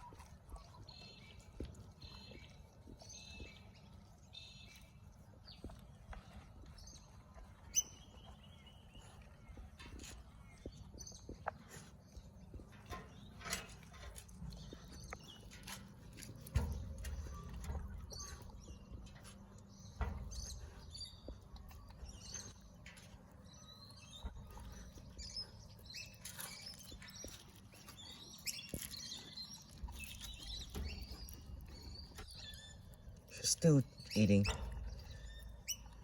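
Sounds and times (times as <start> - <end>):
dog chewing and licking: 0.0 - 36.0.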